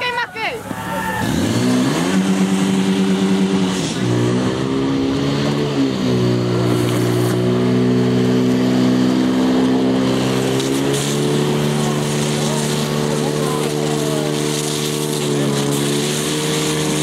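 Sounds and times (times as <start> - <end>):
fire pump engine running: 0.0 - 17.0.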